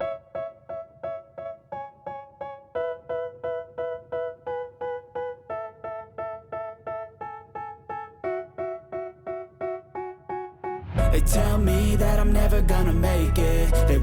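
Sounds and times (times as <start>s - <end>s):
electric piano repeating chords: 0.0s - 14.0s.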